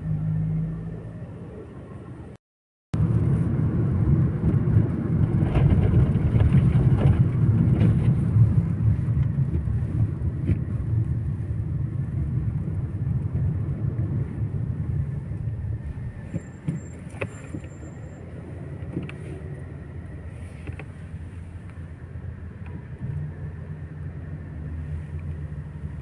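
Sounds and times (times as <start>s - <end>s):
car road and engine rumble: 0.0s - 2.4s, 3.0s - 26.0s.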